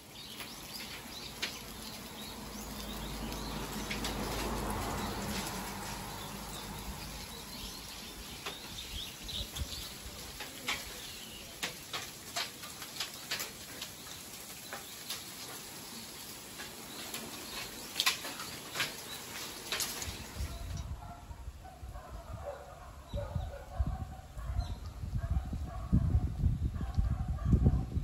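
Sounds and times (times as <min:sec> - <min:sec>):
soft outdoor hiss: 0:00.0 - 0:22.7
small birds chirping: 0:00.0 - 0:25.9.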